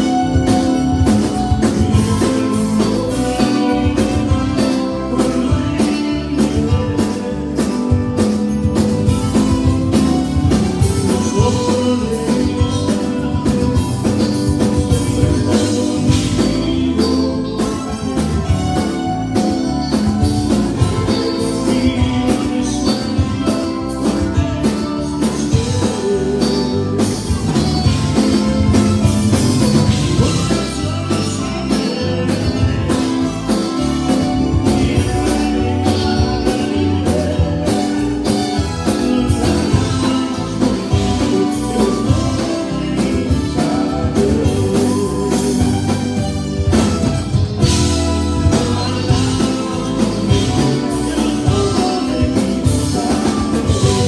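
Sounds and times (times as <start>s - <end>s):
bass: 0.0s - 54.0s
button accordion: 0.0s - 54.0s
drum kit: 0.0s - 54.0s
electric guitars: 0.0s - 54.0s
person singing: 0.0s - 54.0s.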